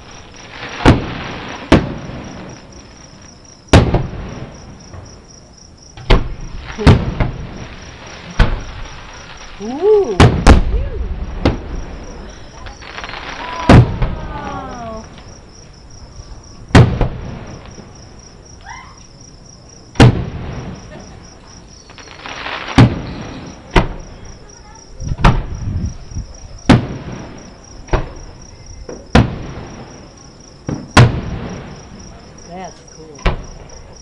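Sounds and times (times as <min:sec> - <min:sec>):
crickets chirping: 0:00.0 - 0:34.0
fireworks booming: 0:00.0 - 0:34.0.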